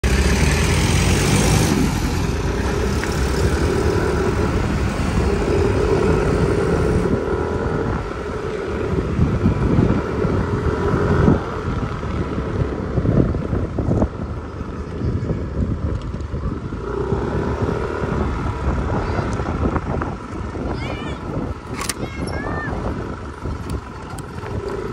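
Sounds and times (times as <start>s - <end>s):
scooter engine drone: 0.0s - 24.9s
wind rushing over microphone: 0.0s - 24.9s.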